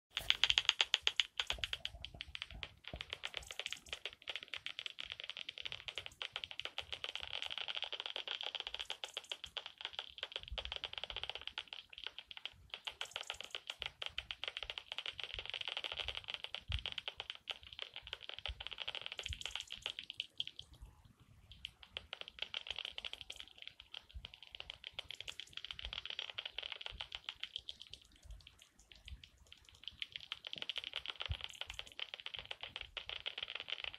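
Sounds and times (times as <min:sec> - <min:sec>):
bat detector dry clicks: 0:00.1 - 0:20.8, 0:21.5 - 0:33.9.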